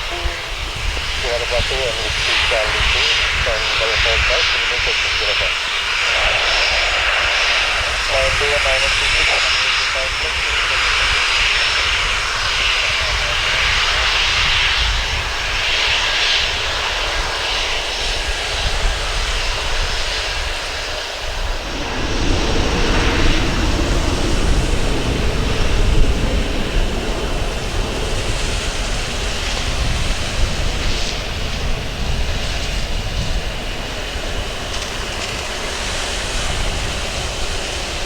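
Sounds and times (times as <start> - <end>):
airliner engines running: 0.0 - 38.0.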